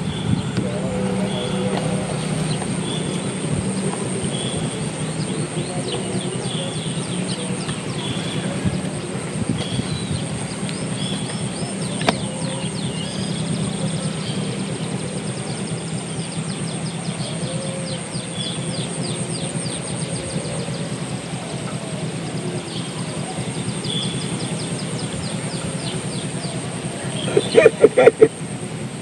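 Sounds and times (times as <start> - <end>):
bird chirping: 0.0 - 28.3
high-pitched whine: 0.0 - 29.0
steady low hum: 0.0 - 29.0.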